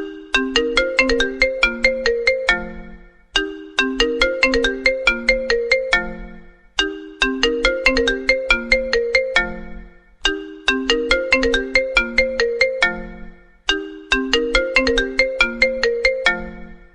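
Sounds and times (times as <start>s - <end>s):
bell-like phone ringtone: 0.0s - 16.9s.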